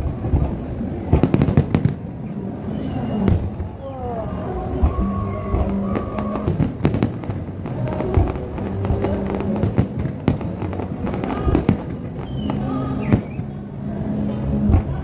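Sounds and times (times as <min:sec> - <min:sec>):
loud fireworks booms: 0:00.0 - 0:13.5
fireworks bangs and crackles: 0:00.0 - 0:15.0.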